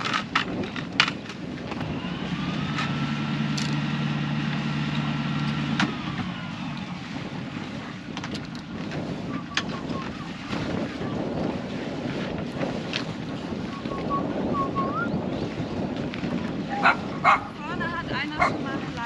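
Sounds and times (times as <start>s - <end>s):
boat engine revving: 0.0s - 19.0s.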